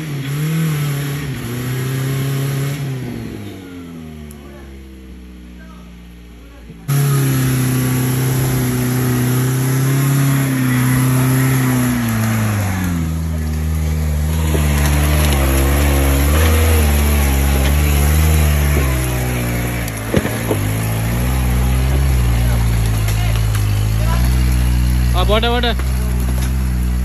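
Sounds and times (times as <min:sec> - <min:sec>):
jeep engine running under load: 0:00.0 - 0:27.0.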